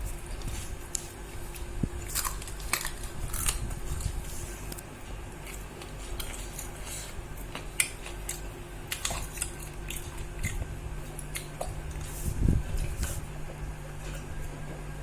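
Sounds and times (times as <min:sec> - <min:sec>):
person chewing food: 0:00.0 - 0:14.4
steady low hum: 0:00.0 - 0:15.0.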